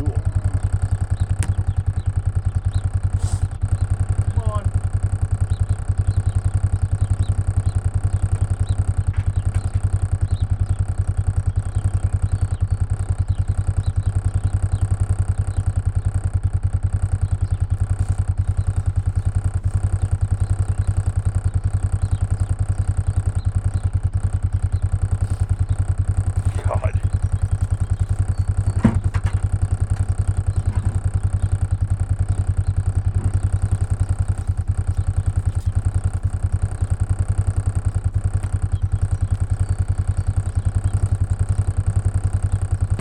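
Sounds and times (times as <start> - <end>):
vehicle engine running steadily: 0.0 - 43.0.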